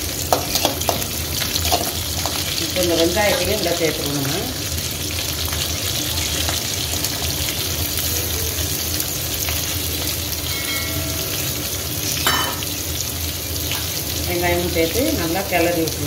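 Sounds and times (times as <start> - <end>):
hot oil sizzling in a pan: 0.0 - 16.0.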